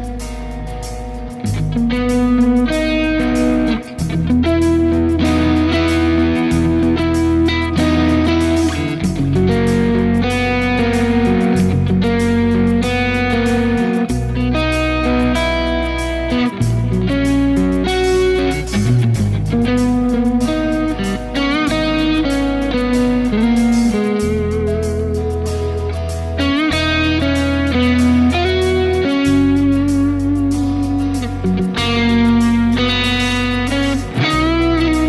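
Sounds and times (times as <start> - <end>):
electric guitar lead line: 0.0 - 35.0.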